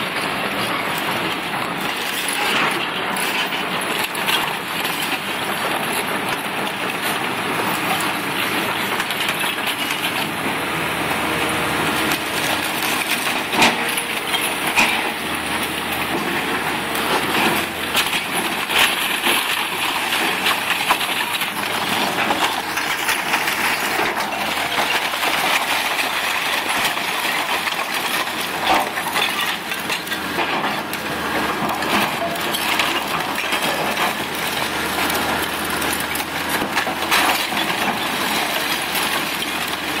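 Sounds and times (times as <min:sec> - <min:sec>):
brick crunching and timber splintering: 0:00.0 - 0:40.0
excavator diesel engines running: 0:00.0 - 0:40.0
sharp cracks and crashes: 0:00.0 - 0:40.0.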